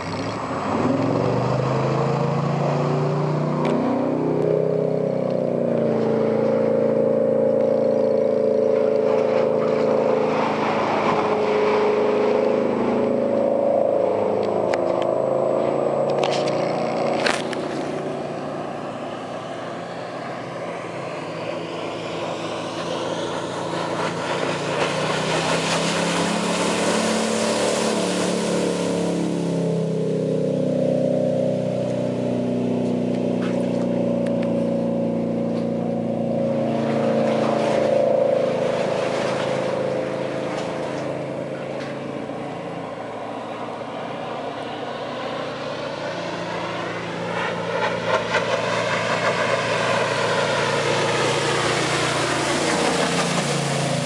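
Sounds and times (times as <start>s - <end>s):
wind and water rushing: 0.0s - 32.6s, 33.9s - 54.0s
boat engine running: 0.0s - 54.0s.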